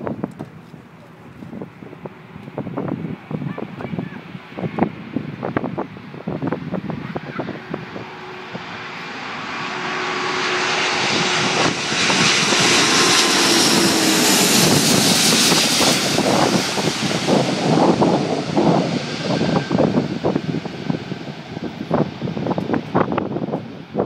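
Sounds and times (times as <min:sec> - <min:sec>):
jet airliner passing close: 0:00.0 - 0:24.0
wind buffeting microphone: 0:00.0 - 0:24.0.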